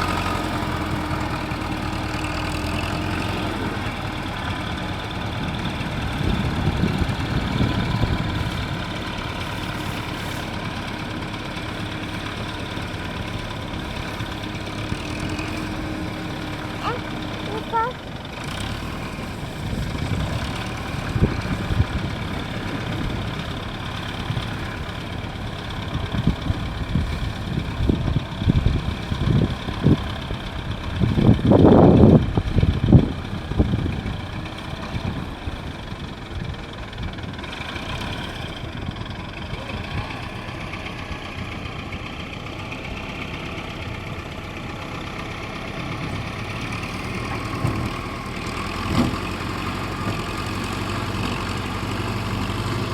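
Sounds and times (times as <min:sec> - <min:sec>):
heavy equipment engine running: 0:00.0 - 0:52.9.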